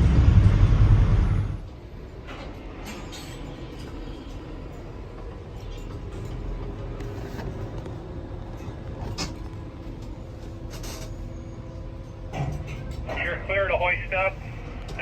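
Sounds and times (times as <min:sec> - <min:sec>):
low machinery rumble: 0:00.0 - 0:15.0.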